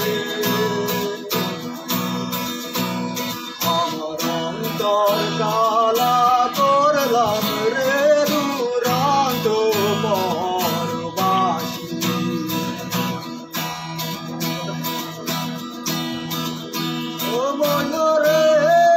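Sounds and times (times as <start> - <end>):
man singing: 0.0 - 18.9
strummed acoustic guitar: 0.0 - 18.9.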